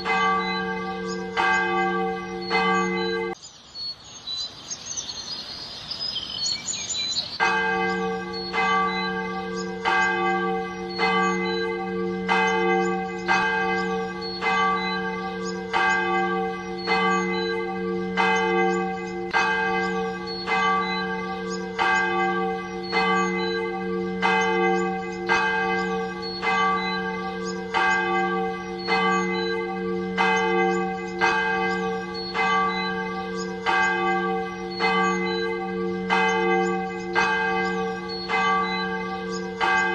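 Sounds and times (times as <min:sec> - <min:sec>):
church bells ringing: 0:00.0 - 0:03.4, 0:07.4 - 0:39.9.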